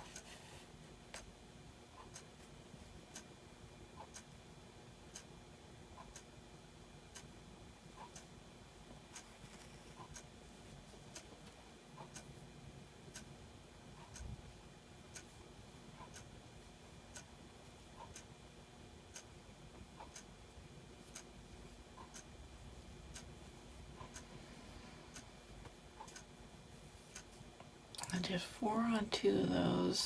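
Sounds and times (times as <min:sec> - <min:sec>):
clock ticking: 0:00.0 - 0:00.4, 0:01.0 - 0:30.0.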